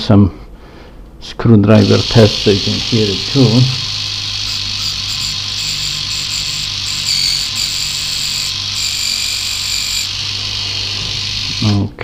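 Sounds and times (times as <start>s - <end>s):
small electric engine humming: 1.8s - 11.9s.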